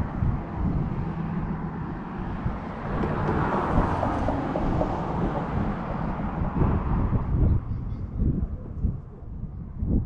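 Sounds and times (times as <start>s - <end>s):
passing car road noise: 0.0s - 9.4s
wind rumbling on microphone: 0.0s - 10.0s.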